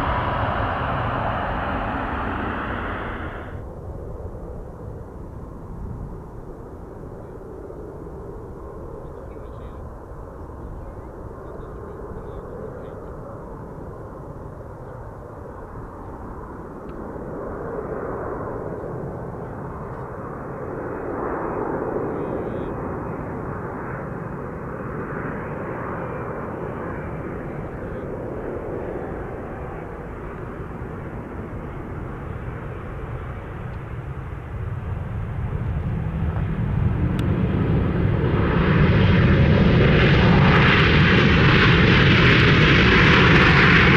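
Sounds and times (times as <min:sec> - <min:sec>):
jet engines drone: 0:00.0 - 0:43.9.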